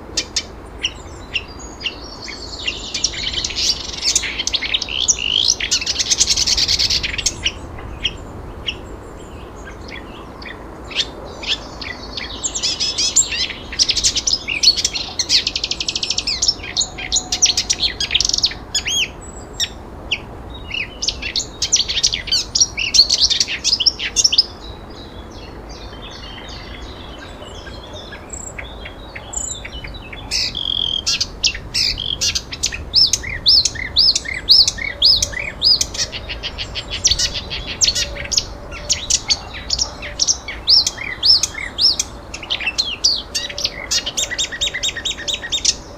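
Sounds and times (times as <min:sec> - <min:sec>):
songbirds chirping and trilling: 0:00.0 - 0:45.9.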